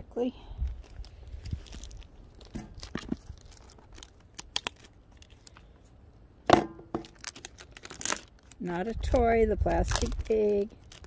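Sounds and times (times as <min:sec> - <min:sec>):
plastic and paper crinkling: 0:00.6 - 0:05.9, 0:06.9 - 0:11.0.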